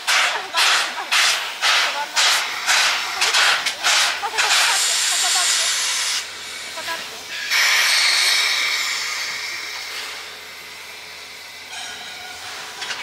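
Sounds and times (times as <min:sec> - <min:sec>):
steam locomotive hiss: 0:00.0 - 0:13.0.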